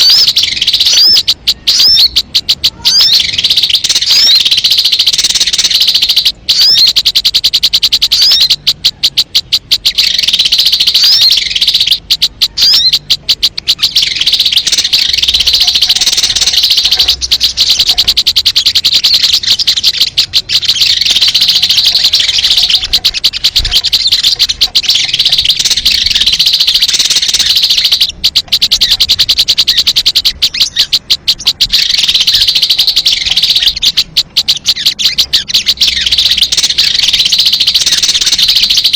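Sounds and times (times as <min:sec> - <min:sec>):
bird lure chirping trills: 0:00.0 - 0:38.9.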